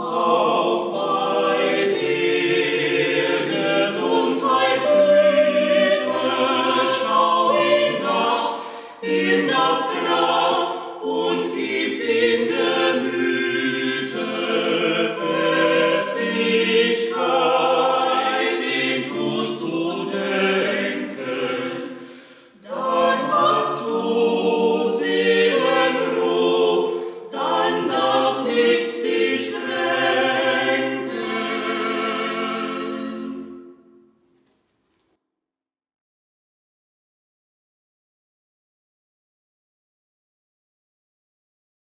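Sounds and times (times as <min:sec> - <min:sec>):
choir singing a cappella: 0:00.0 - 0:34.2.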